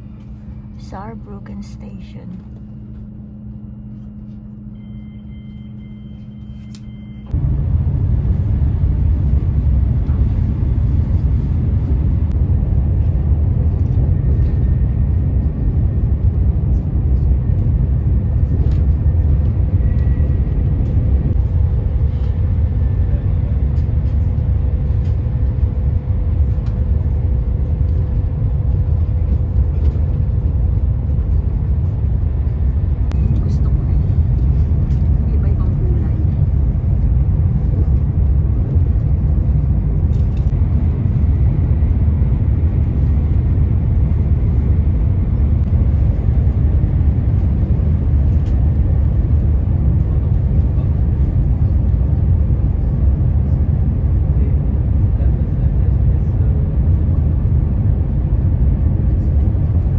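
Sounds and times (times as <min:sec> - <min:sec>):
low rumble of train at speed: 0:00.0 - 0:59.9
train interior hum: 0:00.0 - 0:59.9.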